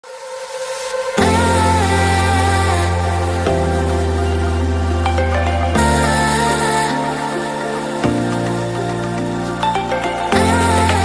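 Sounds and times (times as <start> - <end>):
electronic synth music: 0.4 - 11.0.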